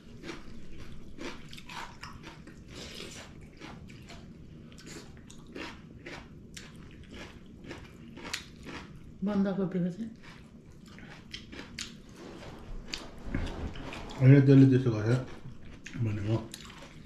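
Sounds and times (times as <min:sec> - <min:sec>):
people chewing and crunching food: 0:00.0 - 0:17.0.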